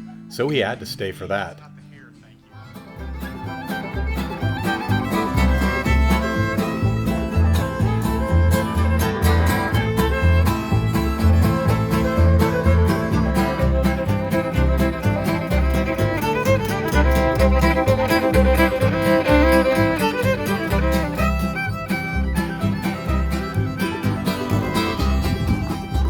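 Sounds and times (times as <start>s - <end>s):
fiddle playing tune: 0.0s - 26.0s
plucked strings: 0.0s - 26.0s
steady bass beat: 3.0s - 26.0s.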